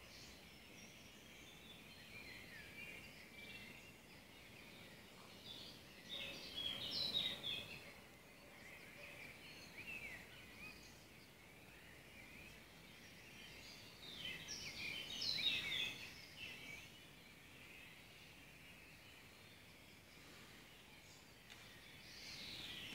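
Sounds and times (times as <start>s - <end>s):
songbird singing: 0.0s - 22.9s
steady background hiss: 0.0s - 22.9s.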